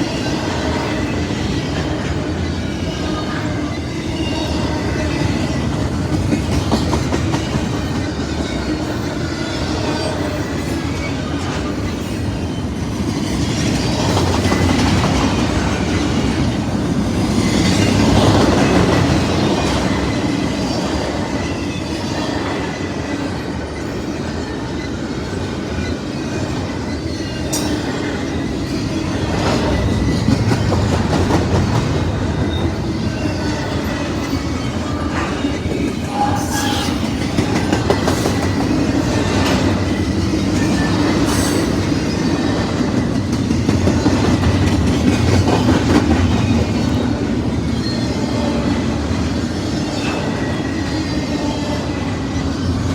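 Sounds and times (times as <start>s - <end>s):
freight train rumbling: 0.0s - 52.9s.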